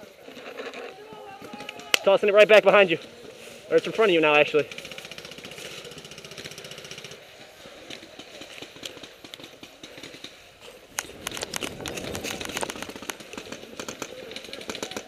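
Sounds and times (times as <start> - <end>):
leaves crackling: 0.0 - 15.0.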